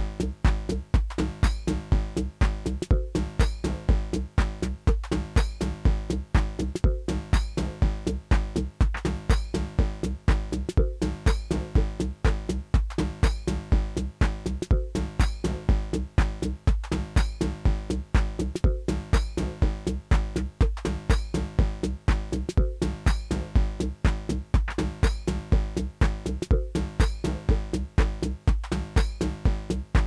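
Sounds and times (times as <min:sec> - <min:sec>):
kick drum: 0:00.0 - 0:30.0
synth bass line: 0:00.0 - 0:30.0.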